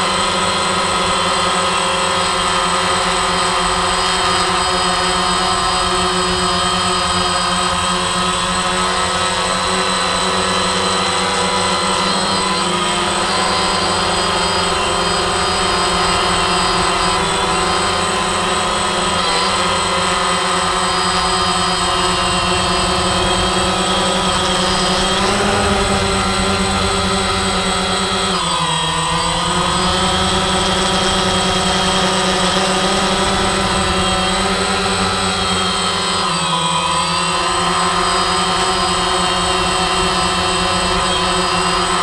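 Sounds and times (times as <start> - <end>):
drone motors whirring: 0.0 - 42.0.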